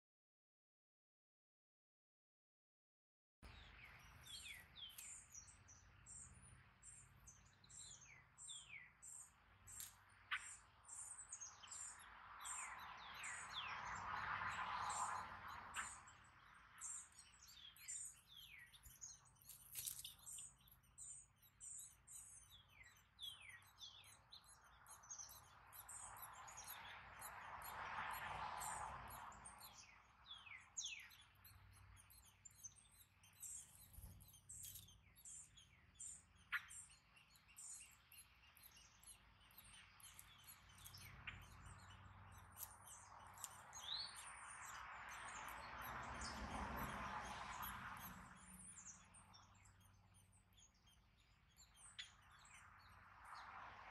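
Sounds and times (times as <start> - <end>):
nestlings chirping: 3.5 - 53.0.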